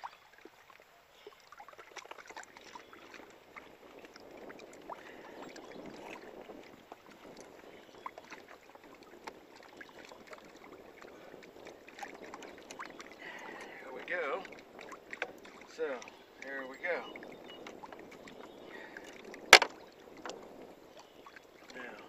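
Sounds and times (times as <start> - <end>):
water lapping at boat hull: 0.0 - 22.0.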